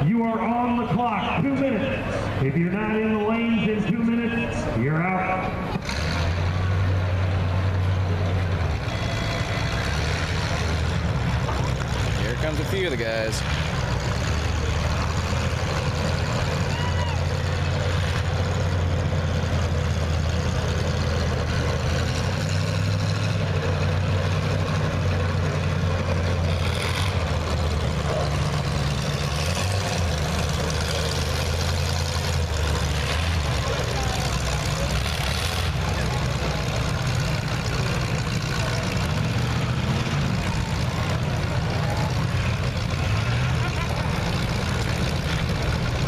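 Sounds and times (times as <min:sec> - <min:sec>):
race car engines idling: 0:00.0 - 0:46.0.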